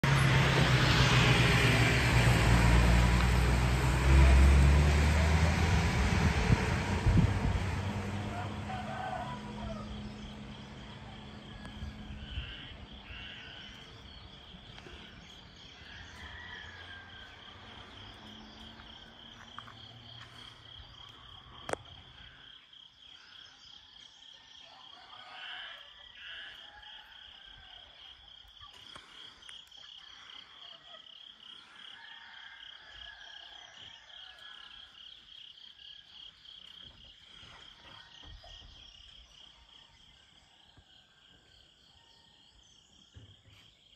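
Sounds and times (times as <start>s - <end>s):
insects and frogs trilling: 8.7s - 43.9s.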